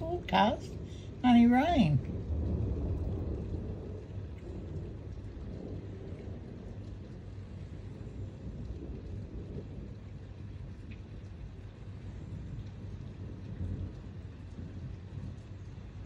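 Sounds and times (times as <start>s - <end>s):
heavy rain: 0.0s - 16.0s
low thunder rumble: 0.0s - 16.0s.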